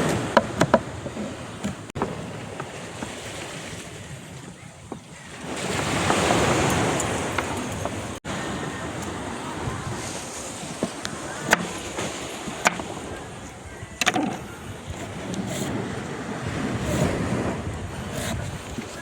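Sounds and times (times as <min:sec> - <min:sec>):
surf washing: 0:00.0 - 0:19.0
wind: 0:00.0 - 0:19.0.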